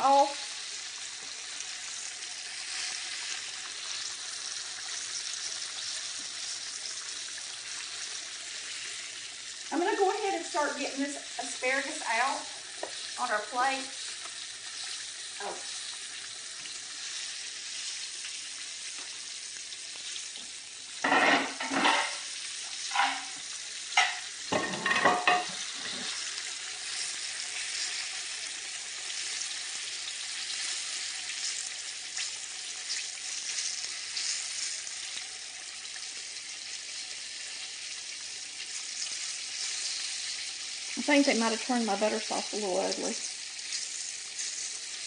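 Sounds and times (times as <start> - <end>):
fish sizzling in a skillet: 0.0 - 45.0.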